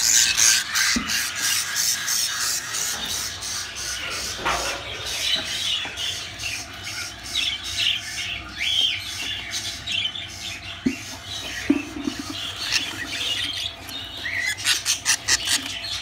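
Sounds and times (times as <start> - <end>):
bird chicks chirping: 0.0 - 16.0.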